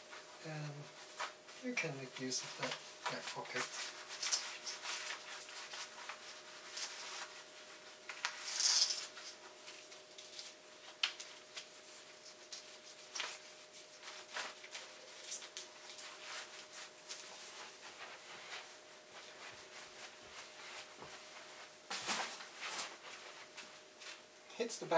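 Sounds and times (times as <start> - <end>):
fabric rustling: 2.4 - 24.4.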